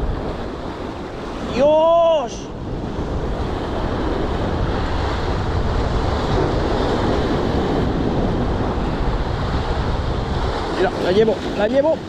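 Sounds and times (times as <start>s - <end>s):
waves breaking over rocks: 0.0s - 12.0s
wind buffeting microphone: 0.0s - 12.0s.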